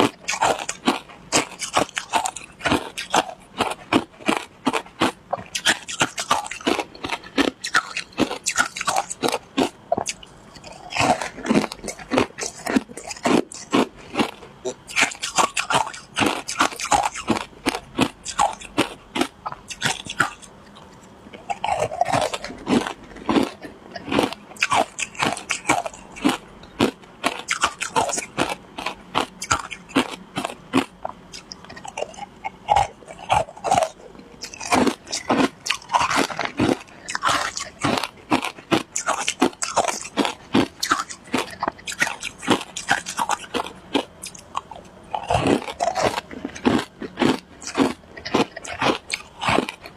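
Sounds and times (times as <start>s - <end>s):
person chewing shaved ice: 0.0s - 49.9s.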